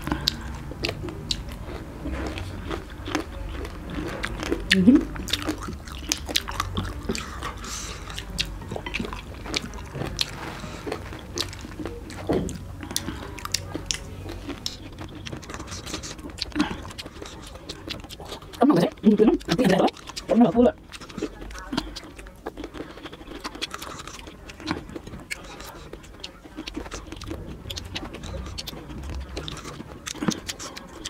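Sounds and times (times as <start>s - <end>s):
chewing and crunching fruit: 0.0s - 31.0s.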